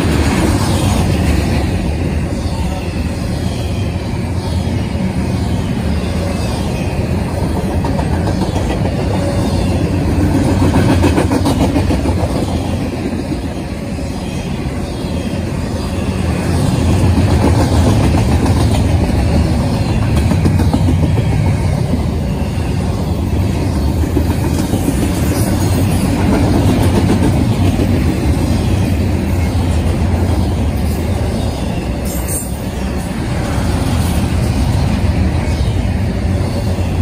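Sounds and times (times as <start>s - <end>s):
steel wheels rumbling on rails: 0.0s - 37.0s.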